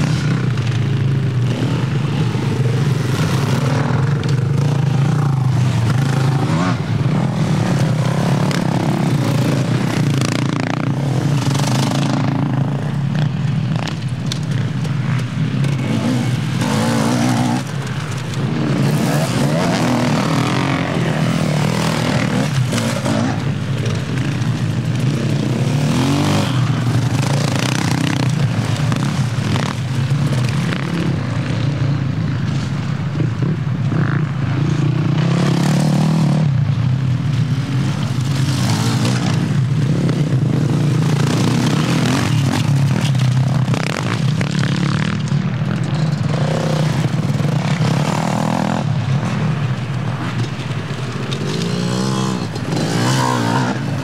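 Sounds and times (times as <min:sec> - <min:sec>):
race vehicle engines revving: 0:00.0 - 0:54.0.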